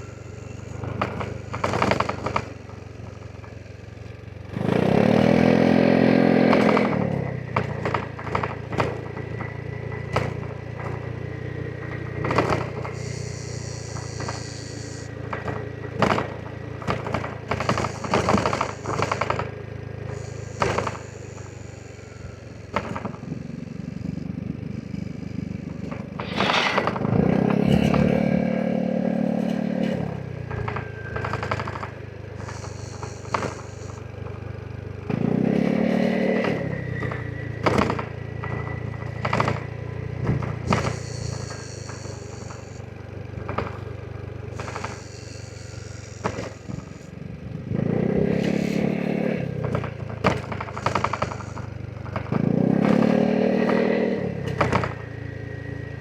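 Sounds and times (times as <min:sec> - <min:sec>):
engine ticks and crackles: 0:00.0 - 0:26.2, 0:27.0 - 0:56.0
scooter engine revving: 0:00.0 - 0:56.0.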